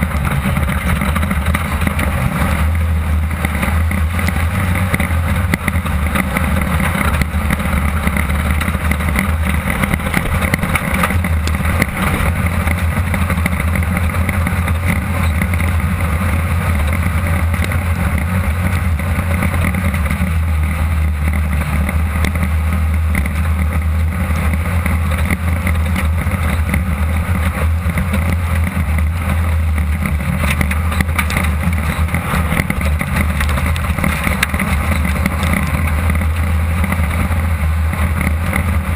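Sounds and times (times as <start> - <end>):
knocks and rattles: 0.0 - 38.9
race car engine droning: 0.0 - 38.9
wind and road noise: 0.0 - 38.9.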